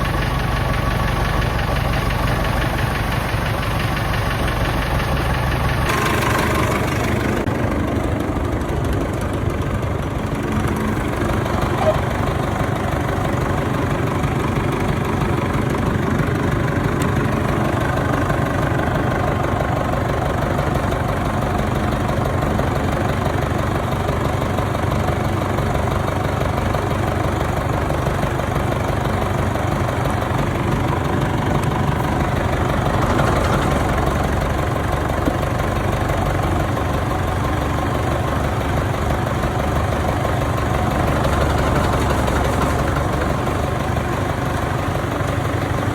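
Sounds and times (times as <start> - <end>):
tractor diesel engine idling: 0.0 - 45.9.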